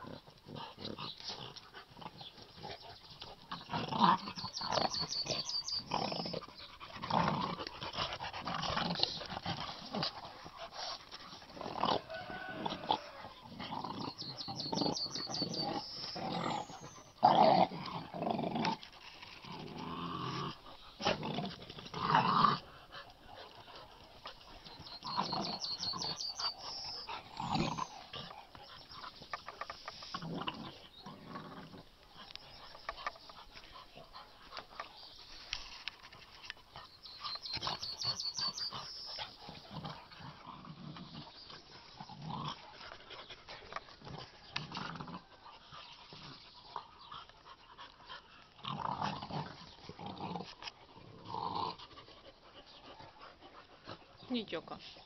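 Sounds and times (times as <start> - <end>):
puppies growling: 0.0 - 55.0.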